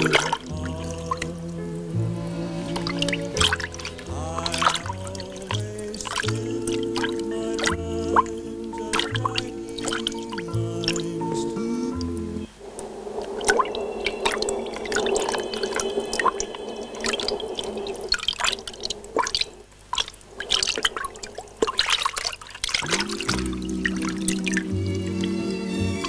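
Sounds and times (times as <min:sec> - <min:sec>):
water dripping and splashing: 0:00.0 - 0:01.9, 0:02.6 - 0:11.2, 0:12.5 - 0:26.0
steady wash of water: 0:00.0 - 0:11.8, 0:12.5 - 0:26.0.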